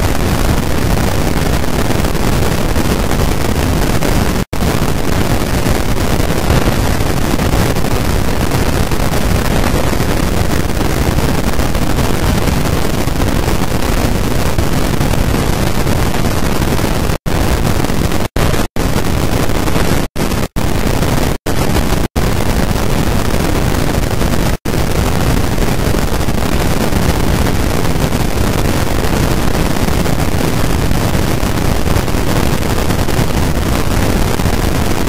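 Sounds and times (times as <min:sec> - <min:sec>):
loud static hiss: 0:00.0 - 0:35.0.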